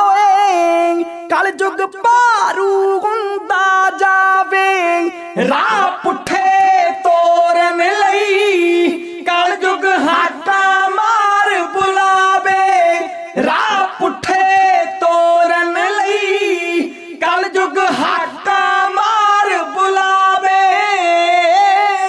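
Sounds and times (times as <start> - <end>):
men singing together: 0.0 - 22.0.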